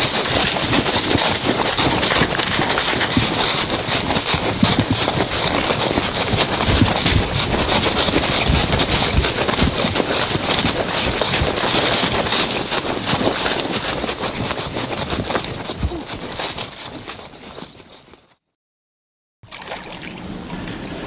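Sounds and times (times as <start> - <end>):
clothing and gear rustling: 0.0 - 18.4
footsteps crunching dry leaves: 0.0 - 18.4.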